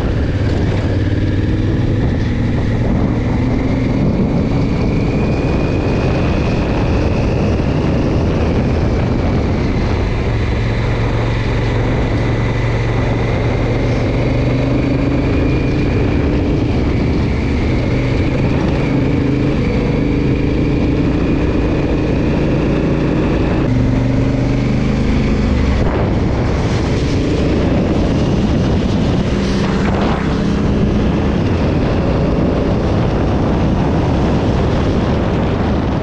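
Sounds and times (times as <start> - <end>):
motorcycle engine running: 0.0 - 36.0
road noise: 0.0 - 36.0
wind: 0.0 - 36.0.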